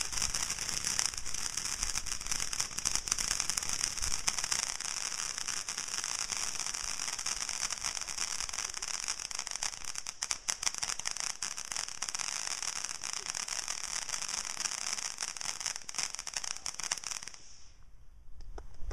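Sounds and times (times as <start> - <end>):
firework fountain hissing: 0.0 - 17.8
sharp crackles of sparks: 0.0 - 17.8.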